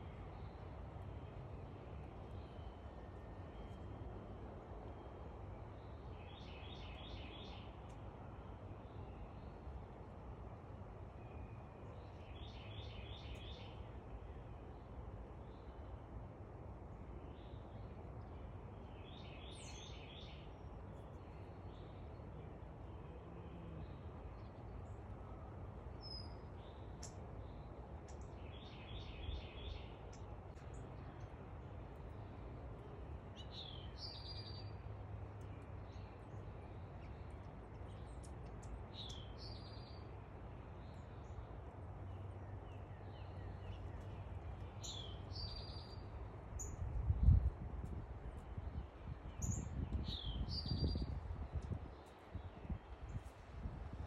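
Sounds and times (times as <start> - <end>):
songbirds singing: 0.0 - 10.0, 10.6 - 16.0, 16.9 - 54.0.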